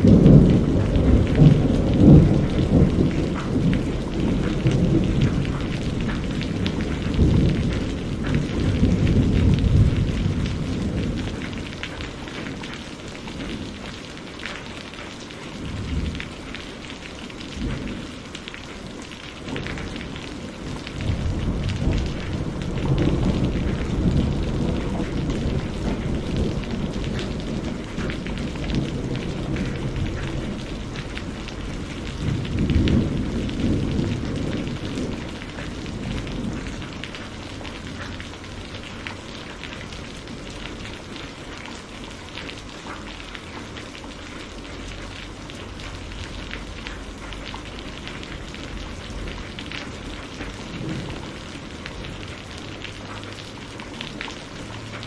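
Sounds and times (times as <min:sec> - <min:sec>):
rolling thunder: 0:00.0 - 0:14.0, 0:19.4 - 0:41.1, 0:45.6 - 0:55.0
rain falling: 0:00.0 - 0:55.0.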